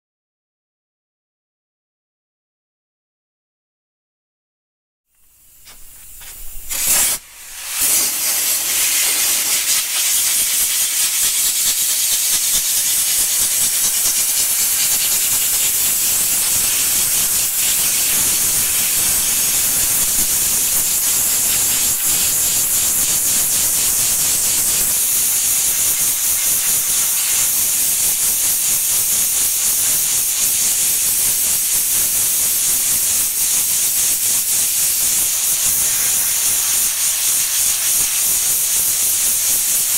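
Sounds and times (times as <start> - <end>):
sandblaster hissing: 5.4 - 39.9.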